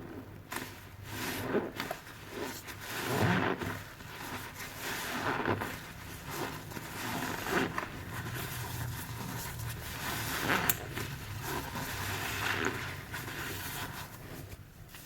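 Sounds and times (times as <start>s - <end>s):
soapy sponge squelching: 0.0s - 15.0s.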